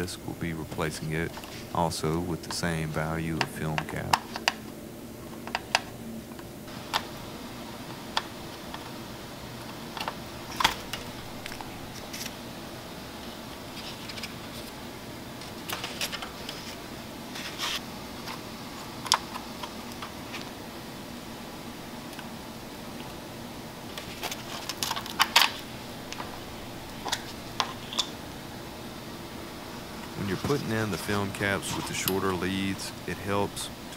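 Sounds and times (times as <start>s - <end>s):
faint steady hum: 0.0s - 33.9s.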